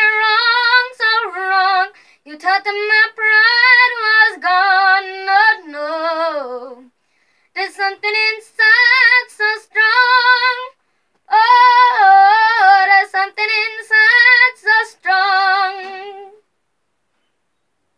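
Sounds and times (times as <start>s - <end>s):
boy singing: 0.0s - 6.9s, 7.6s - 16.4s.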